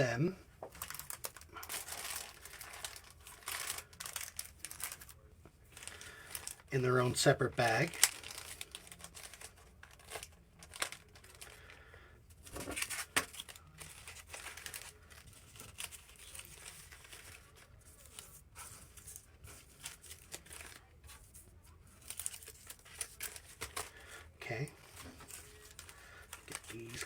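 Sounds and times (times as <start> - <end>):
plastic wrappers crinkling: 0.0 - 27.0.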